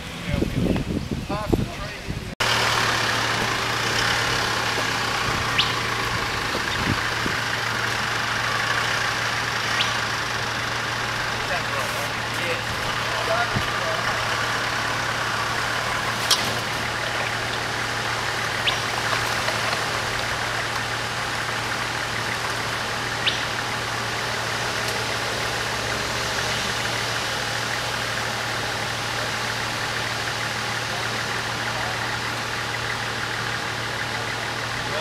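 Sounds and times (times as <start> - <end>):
engine running at low revs: 0.0 - 35.0.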